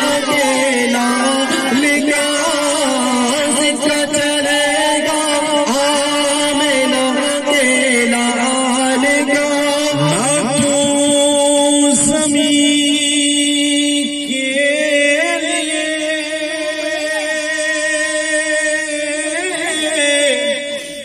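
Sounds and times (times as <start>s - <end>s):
man singing into microphone: 0.0s - 21.0s.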